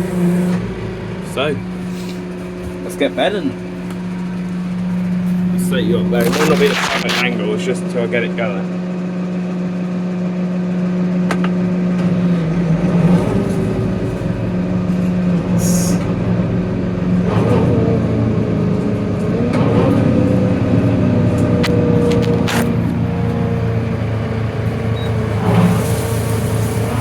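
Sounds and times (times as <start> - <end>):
tractor engine running under load: 0.0 - 6.2, 7.6 - 27.0.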